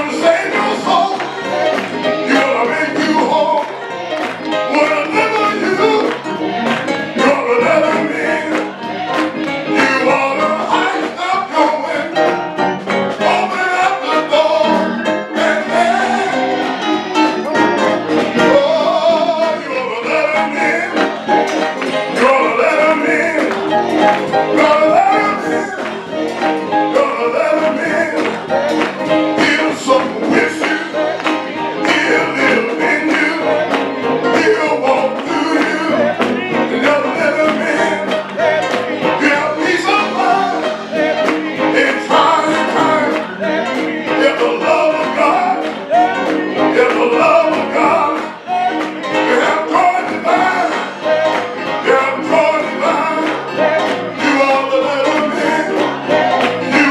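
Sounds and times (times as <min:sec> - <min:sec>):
gospel music with singing: 0:00.0 - 0:56.9.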